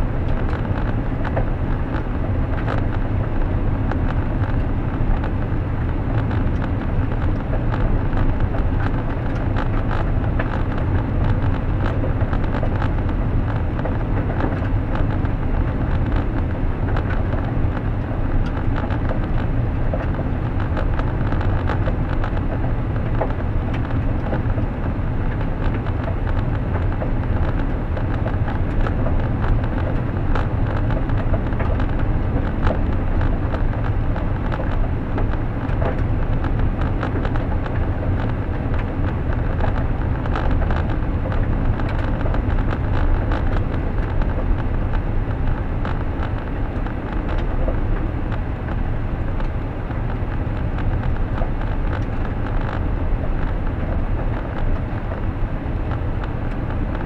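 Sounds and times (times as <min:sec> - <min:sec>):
car engine and tyre rumble: 0:00.0 - 0:57.0
small ticks and crackles: 0:00.2 - 0:57.0.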